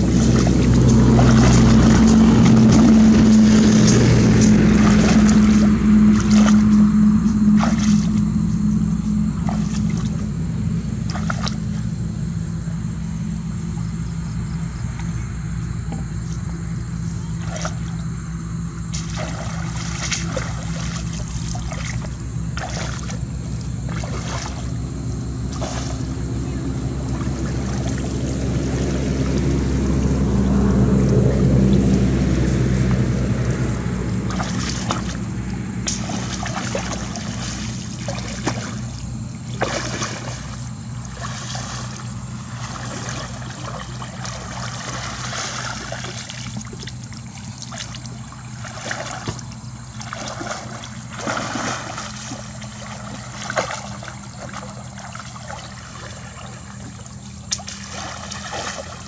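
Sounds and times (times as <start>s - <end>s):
shallow water splashing: 0.0s - 8.4s, 9.3s - 10.3s, 10.9s - 12.0s, 18.8s - 32.3s, 33.4s - 59.0s
steady low hum: 0.0s - 59.0s.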